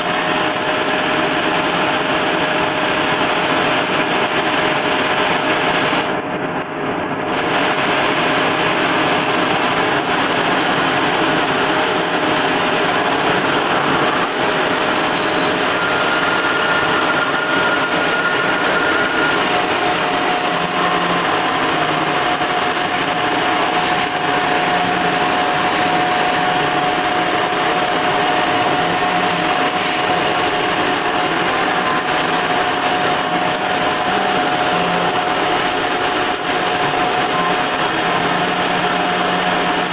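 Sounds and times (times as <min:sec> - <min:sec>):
router spindle milling aluminium: 0:07.3 - 0:39.9.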